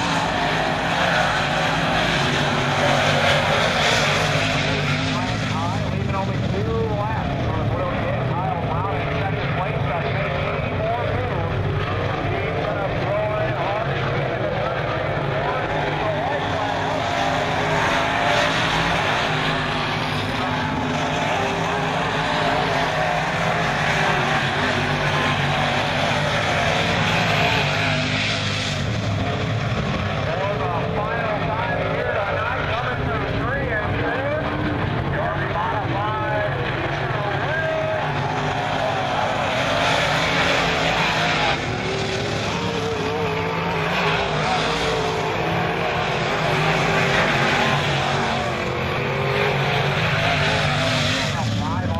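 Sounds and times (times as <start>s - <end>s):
race car engines droning: 0.0s - 51.9s.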